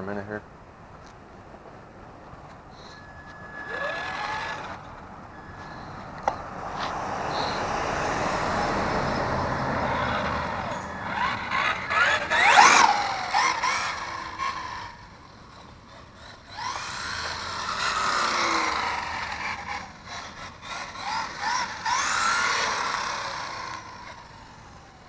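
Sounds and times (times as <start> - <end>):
electric motor whining: 2.7 - 25.0.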